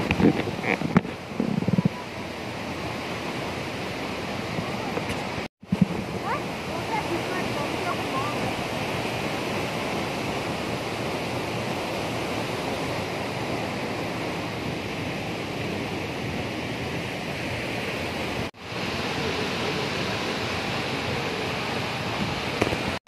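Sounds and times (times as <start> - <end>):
waterfall and stream rushing: 0.0 - 23.0.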